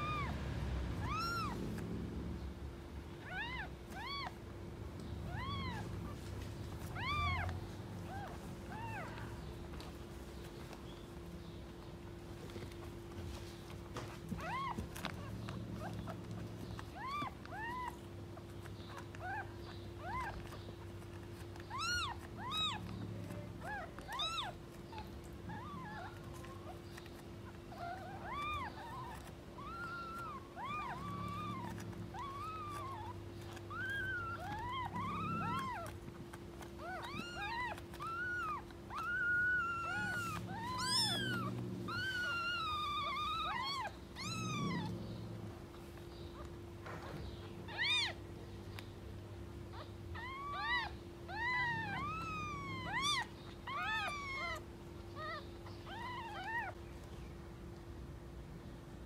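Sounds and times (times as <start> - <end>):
kittens mewing: 0.0 - 57.8.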